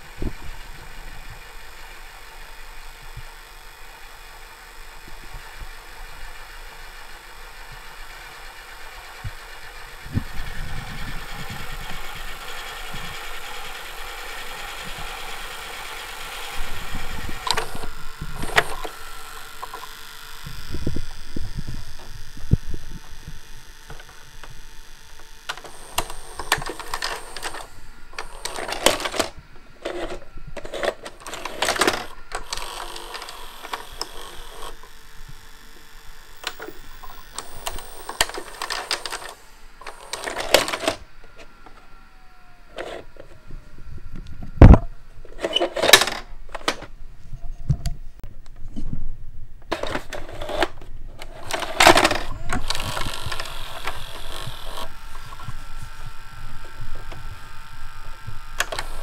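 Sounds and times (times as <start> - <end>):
tape mechanism clicking and whirring: 0.0 - 48.7, 49.6 - 59.0.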